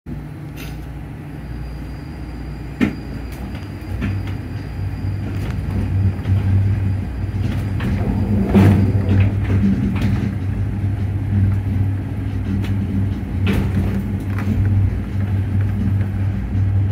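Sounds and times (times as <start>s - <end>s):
cable car rumble and hum: 0.1s - 16.9s.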